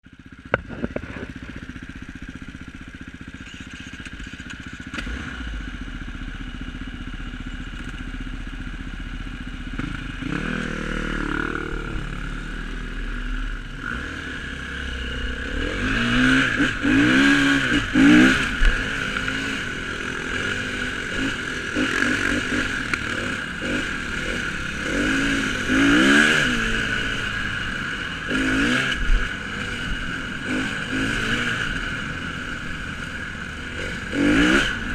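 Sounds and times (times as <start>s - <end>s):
dirt bike engine revving: 0.5s - 5.9s, 9.6s - 34.9s.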